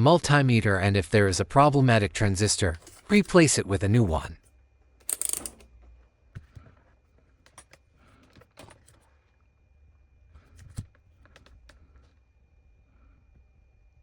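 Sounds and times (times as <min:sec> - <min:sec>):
faint high-pitched whine: 0:00.0 - 0:14.0.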